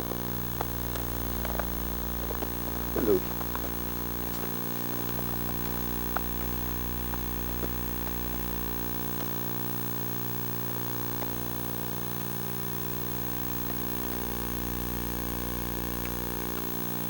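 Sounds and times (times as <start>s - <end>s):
electrical buzz: 0.0s - 17.0s
faint small ticks: 0.0s - 17.0s.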